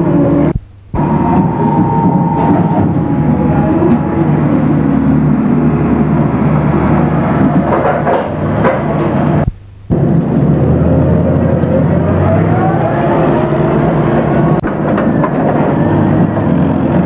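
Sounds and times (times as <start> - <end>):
boat engine and deck machinery: 0.0 - 17.0
faint rising whine: 0.0 - 17.0.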